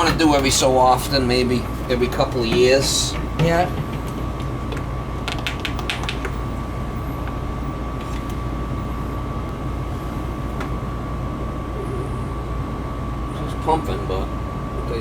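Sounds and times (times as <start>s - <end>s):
condensate pump humming and whining: 0.0s - 15.0s.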